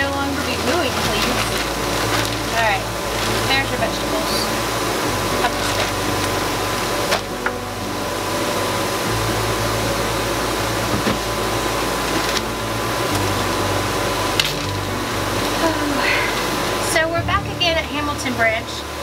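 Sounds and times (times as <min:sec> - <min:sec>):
air conditioner fan rushing: 0:00.0 - 0:19.0.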